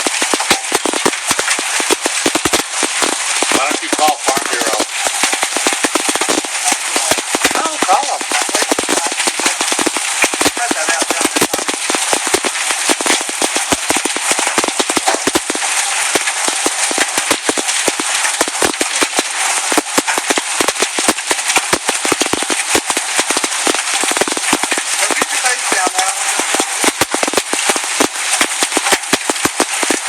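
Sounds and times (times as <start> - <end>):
hailstones pelting: 0.0 - 30.0
heavy rain hiss: 0.0 - 30.0.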